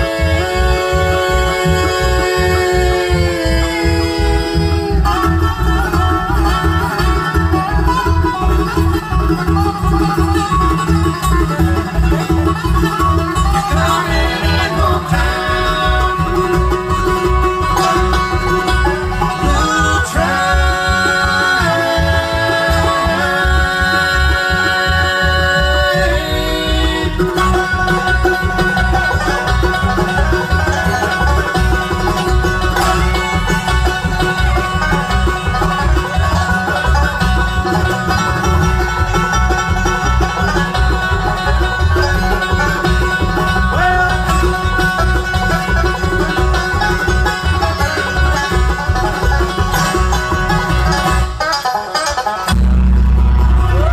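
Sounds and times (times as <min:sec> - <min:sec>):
banjo: 0:00.0 - 0:53.9
bluegrass band playing live: 0:00.0 - 0:53.9
fiddle: 0:00.0 - 0:53.9.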